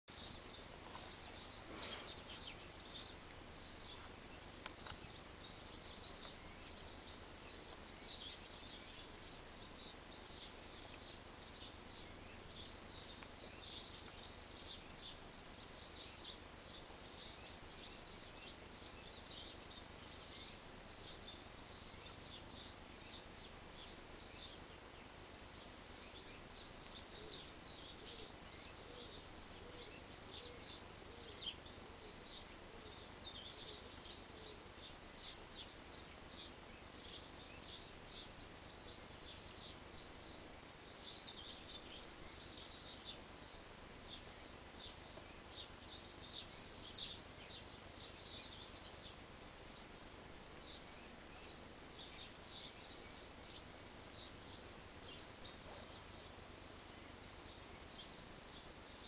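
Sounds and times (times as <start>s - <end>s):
small birds chirping and singing: 0.0s - 59.0s
low hiss: 0.1s - 59.0s.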